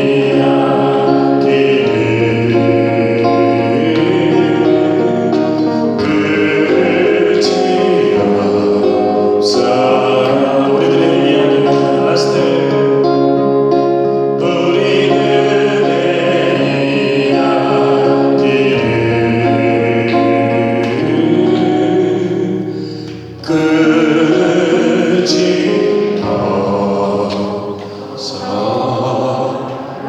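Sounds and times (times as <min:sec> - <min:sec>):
group of voices singing: 0:00.0 - 0:30.0
instrumental accompaniment: 0:00.0 - 0:30.0.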